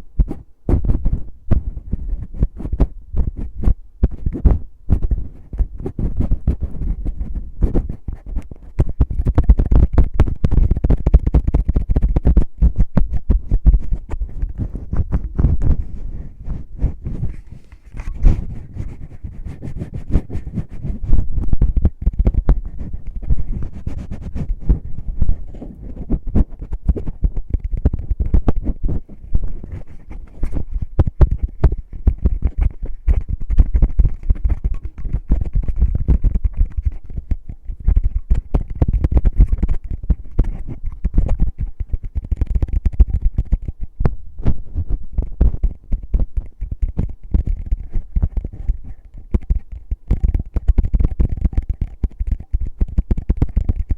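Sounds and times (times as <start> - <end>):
fingertips rubbing on microphone: 0.0 - 53.9.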